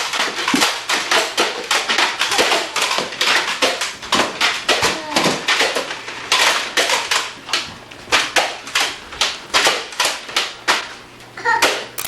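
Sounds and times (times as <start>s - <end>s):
toy guns firing foam arrows: 0.1s - 10.8s, 11.6s - 12.0s.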